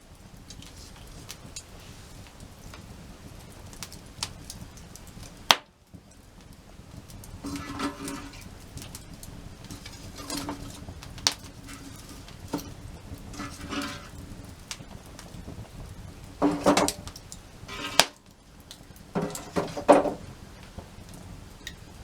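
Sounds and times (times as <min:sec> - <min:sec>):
firewood knocking and cracking: 0:00.4 - 0:21.9.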